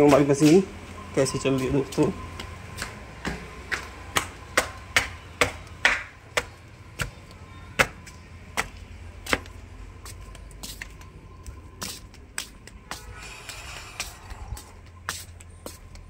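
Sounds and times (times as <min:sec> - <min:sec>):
flip-flop footsteps on concrete: 0:00.0 - 0:16.0.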